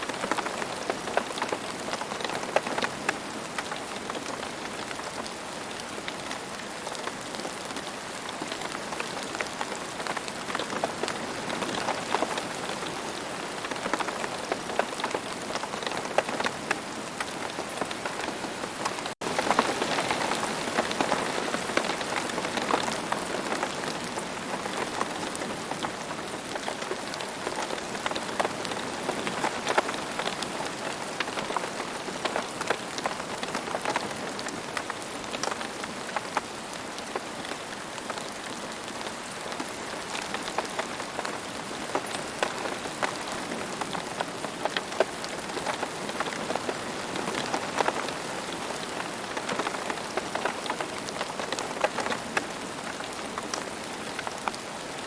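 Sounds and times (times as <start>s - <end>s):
rain pattering on hard surface: 0.0s - 55.0s.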